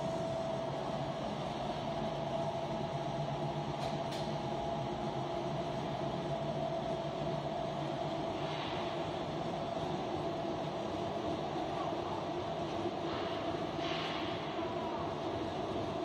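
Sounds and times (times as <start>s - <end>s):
constant machine whine: 0.0s - 16.0s.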